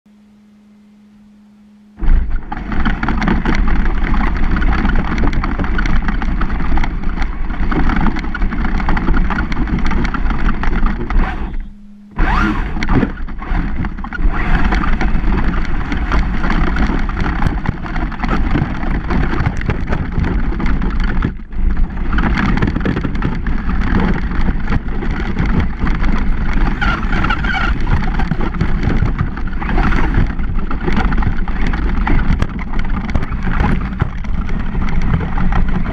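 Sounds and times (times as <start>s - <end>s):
toy truck tyres and rattle: 2.0s - 35.9s
wind on camera: 2.0s - 35.9s.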